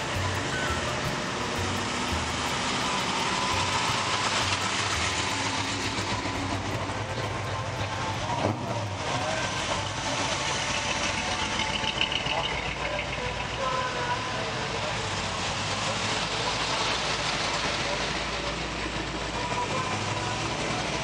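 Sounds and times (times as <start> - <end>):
car engines rumbling past: 0.0 - 21.0
road and outdoor noise: 0.0 - 21.0.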